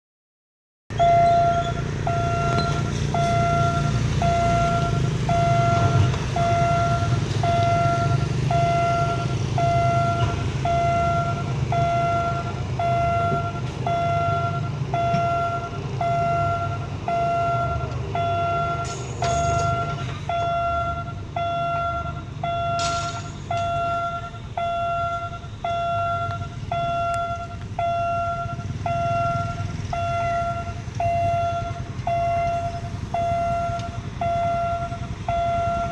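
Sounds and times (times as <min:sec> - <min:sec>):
level crossing alarm beeping: 0:00.9 - 0:35.9
low rumble of vehicle engines: 0:00.9 - 0:35.9.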